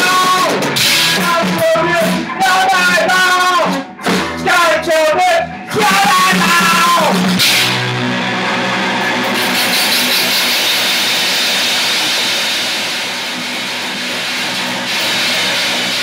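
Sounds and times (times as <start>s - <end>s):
bass guitar: 0.0s - 16.0s
distorted electric guitar: 0.0s - 16.0s.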